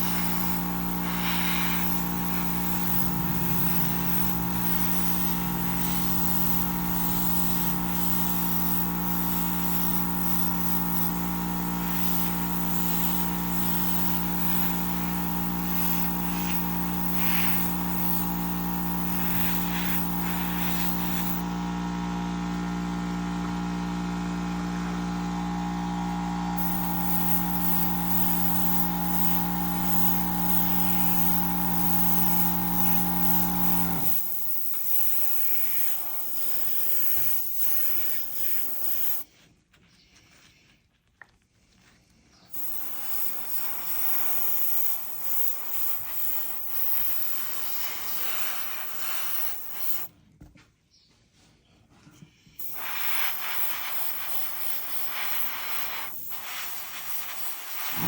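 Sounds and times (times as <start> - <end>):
hissing and rubbing: 0.0 - 21.4, 26.6 - 39.4, 42.5 - 50.1, 52.6 - 58.0
small electric motor humming: 0.0 - 39.3, 42.5 - 50.1, 52.6 - 58.0.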